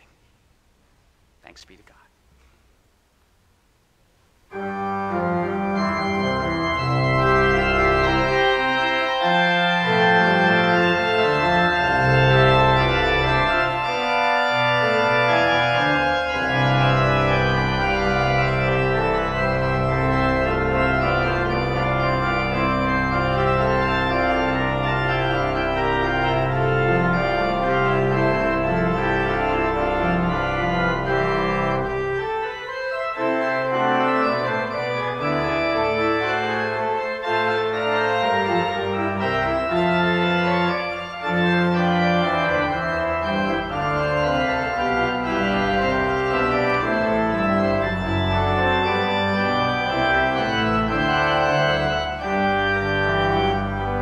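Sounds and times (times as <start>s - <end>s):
pipe organ chords: 4.5s - 54.0s.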